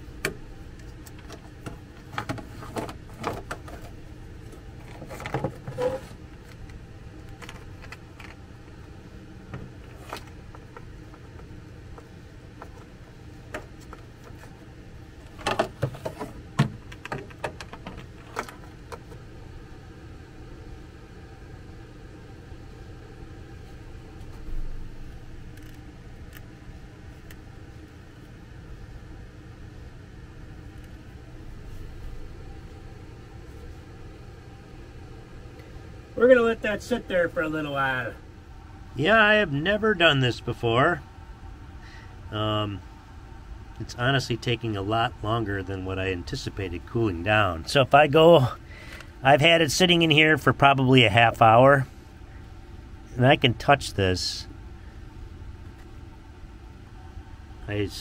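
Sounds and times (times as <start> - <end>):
fan hum: 0.0 - 58.0.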